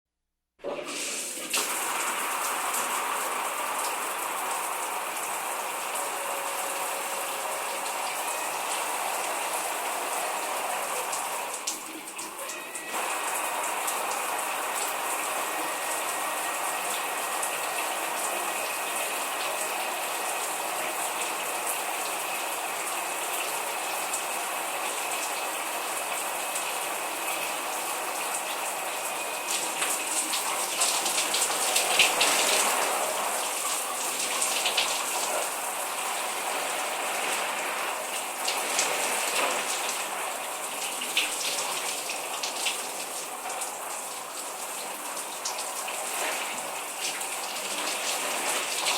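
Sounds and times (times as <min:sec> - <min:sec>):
water splashing and dripping: 0:00.6 - 0:27.4, 0:28.2 - 0:48.9
shower water spraying: 0:00.6 - 0:48.9.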